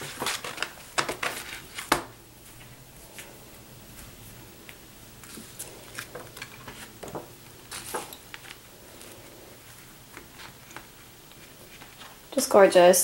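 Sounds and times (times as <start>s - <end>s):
glossy paper booklet rustling: 0.0s - 12.4s.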